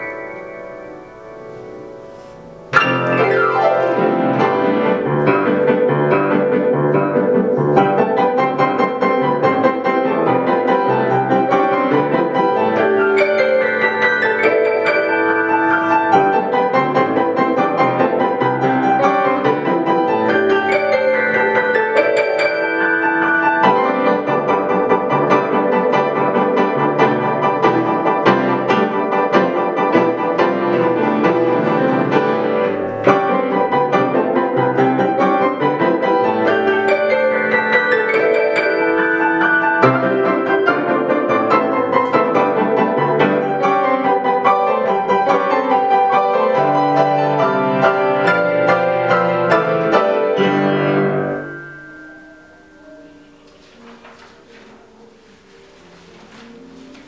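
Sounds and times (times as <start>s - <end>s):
two pianos playing a duet: 0.0s - 57.0s.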